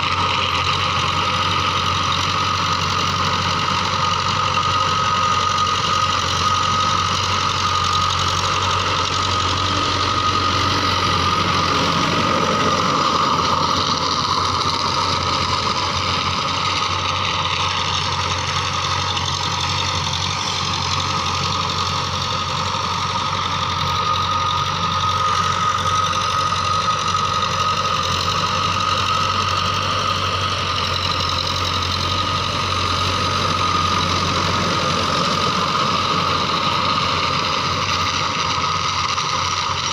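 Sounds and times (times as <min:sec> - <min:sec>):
steady high whine: 0:00.0 - 0:39.9
tractor diesel engine under load: 0:00.0 - 0:39.9.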